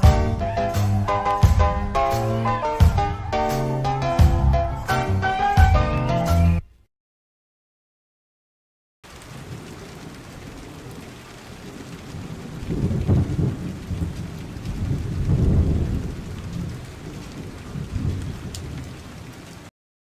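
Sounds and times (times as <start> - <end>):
thunder rumbling: 0.0 - 5.4, 9.0 - 19.7
steady rain: 0.0 - 6.1, 9.0 - 19.7.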